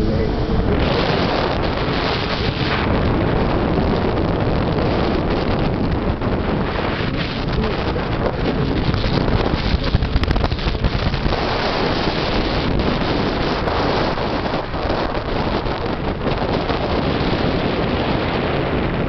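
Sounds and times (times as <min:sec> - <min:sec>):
boat engine: 0:00.0 - 0:19.0
water noise: 0:00.0 - 0:19.0
wind rushing over microphone: 0:00.0 - 0:19.0.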